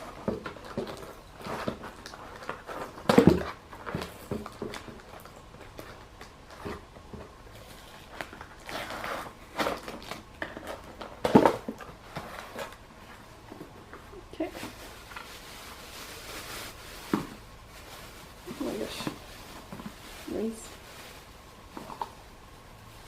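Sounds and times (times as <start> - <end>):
cardboard and plastic packaging rustling: 0.0 - 23.0.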